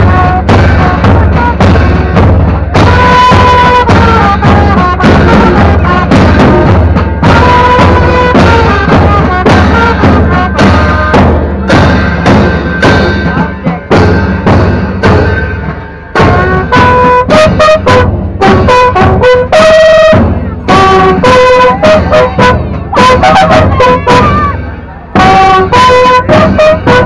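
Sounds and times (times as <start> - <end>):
bass drum beat: 0.0 - 27.0
marching brass band playing: 0.0 - 27.0.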